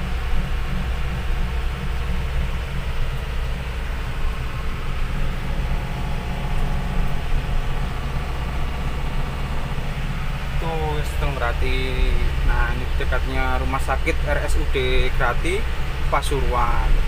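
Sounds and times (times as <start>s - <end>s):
diesel engine droning: 0.0s - 17.0s
road noise: 0.0s - 17.0s.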